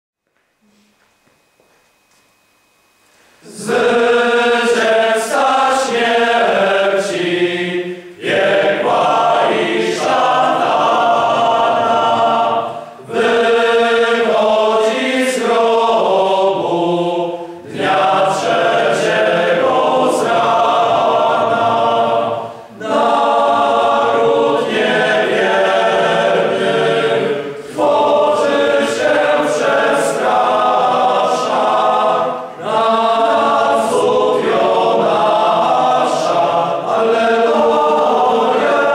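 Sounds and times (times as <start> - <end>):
male choir singing a cappella: 3.4 - 38.9.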